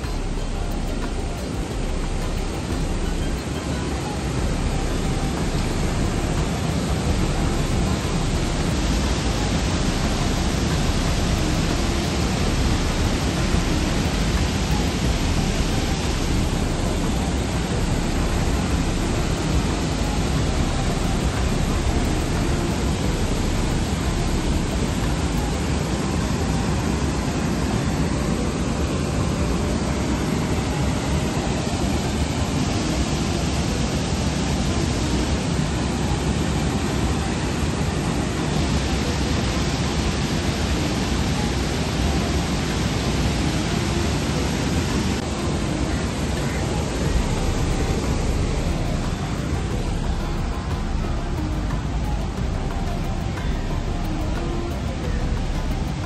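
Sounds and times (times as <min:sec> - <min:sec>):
river water rushing over weir: 0:00.0 - 0:56.0.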